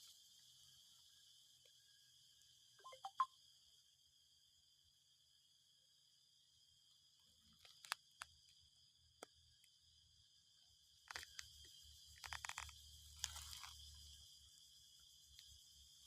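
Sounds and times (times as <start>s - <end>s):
high insect chorus: 0.0s - 16.0s.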